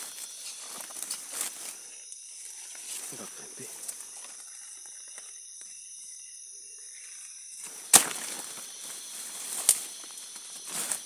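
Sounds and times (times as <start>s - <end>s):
insect hum: 0.0s - 11.0s.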